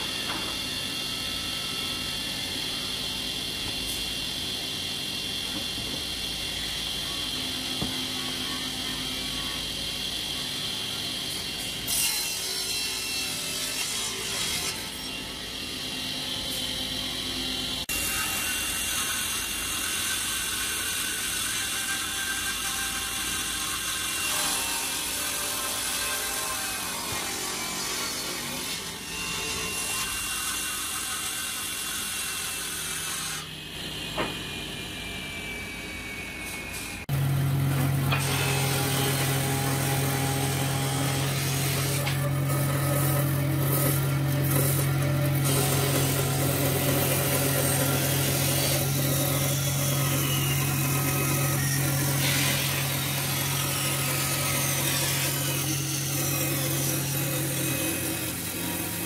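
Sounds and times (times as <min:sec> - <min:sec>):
band saw cutting wood: 0:00.0 - 0:59.0
circular table saw whining: 0:00.0 - 0:59.0.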